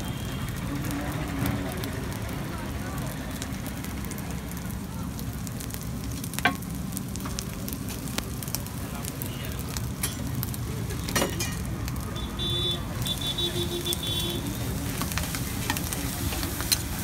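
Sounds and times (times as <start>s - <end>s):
rice sizzling on griddle: 0.0s - 17.0s.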